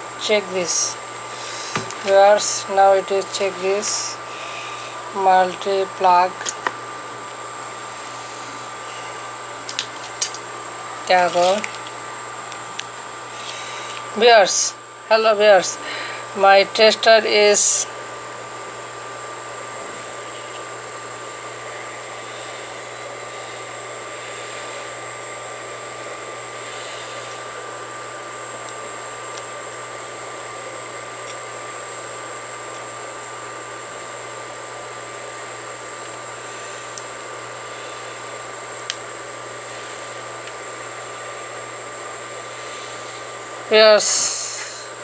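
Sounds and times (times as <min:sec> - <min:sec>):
fan whirring hiss: 0:00.0 - 0:45.0.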